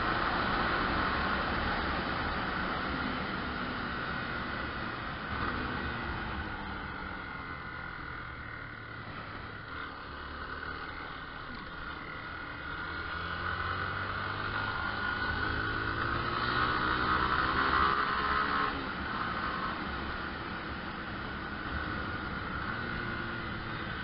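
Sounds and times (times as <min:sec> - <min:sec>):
motorcycle engine accelerating: 0:00.3 - 0:24.0.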